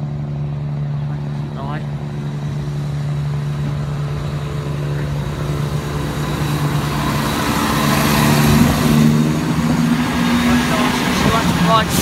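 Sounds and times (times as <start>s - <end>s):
low diesel engine drone: 0.0s - 12.0s
train wheel and rail noise: 0.0s - 12.0s.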